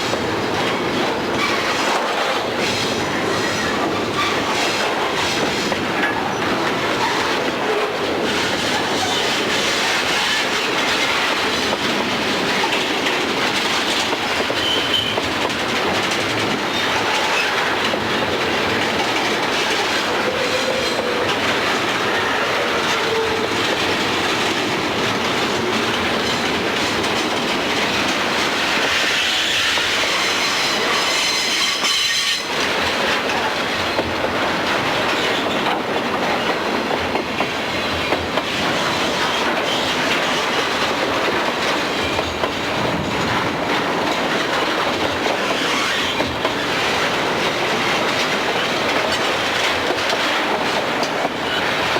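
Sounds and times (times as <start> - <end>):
train wheels clicking over rail joints: 0.0 - 51.9.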